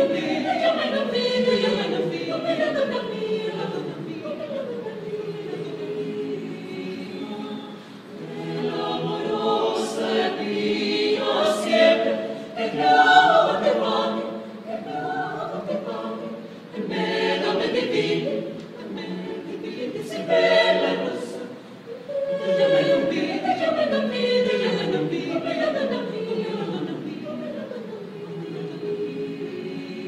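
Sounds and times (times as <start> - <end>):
mixed choir singing a cappella: 0.0 - 30.0.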